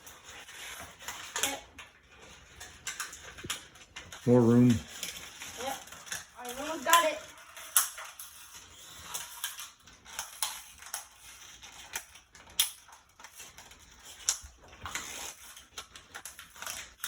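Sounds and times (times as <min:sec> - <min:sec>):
plastic and cardboard packaging crinkling: 0:00.0 - 0:17.0.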